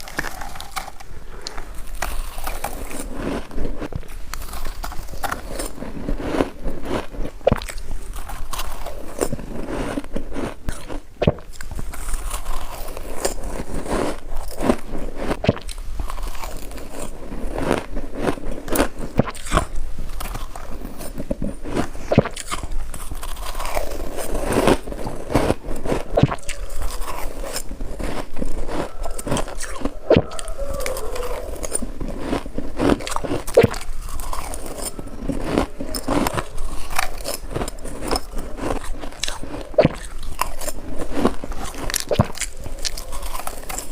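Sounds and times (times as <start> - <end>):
crunching ice with teeth: 0.0 - 43.9.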